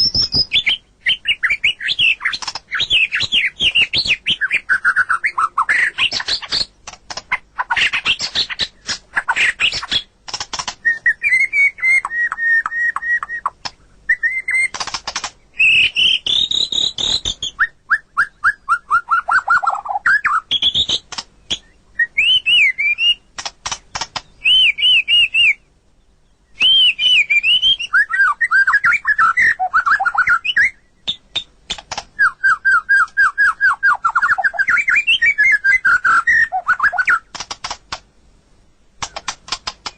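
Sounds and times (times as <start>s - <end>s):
songbird whistling and rattling: 0.0s - 25.6s, 26.5s - 38.0s, 39.0s - 39.9s.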